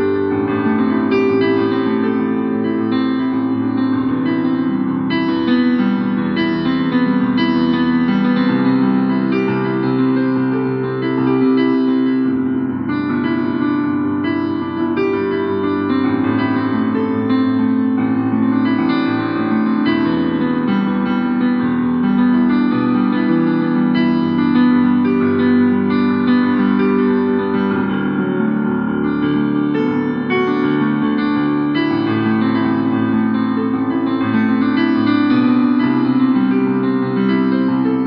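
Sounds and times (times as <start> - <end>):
electric piano chords: 0.0 - 38.0.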